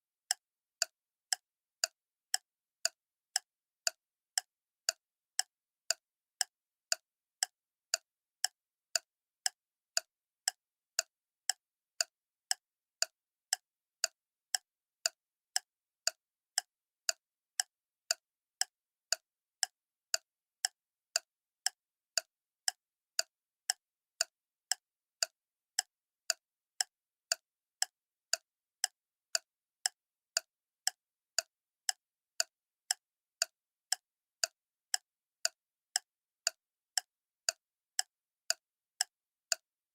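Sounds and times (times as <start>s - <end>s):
mechanical clock ticking: 0.3s - 39.6s.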